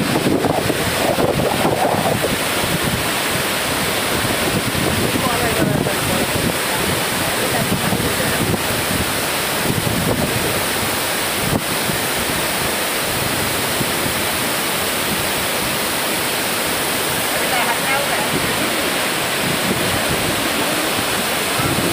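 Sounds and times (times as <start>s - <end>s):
water rushing over weir: 0.0s - 21.9s.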